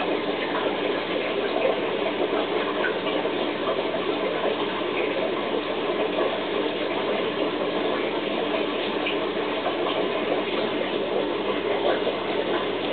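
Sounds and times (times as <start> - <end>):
aquarium water rushing: 0.0 - 12.9.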